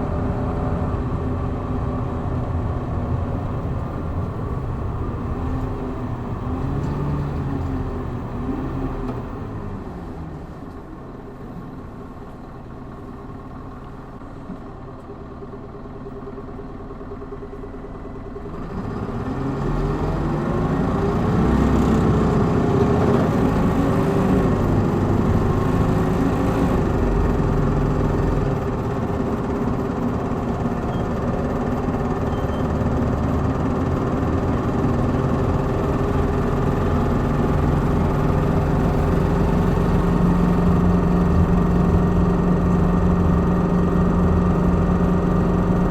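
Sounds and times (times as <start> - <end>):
bus engine accelerating: 0.0 - 45.9.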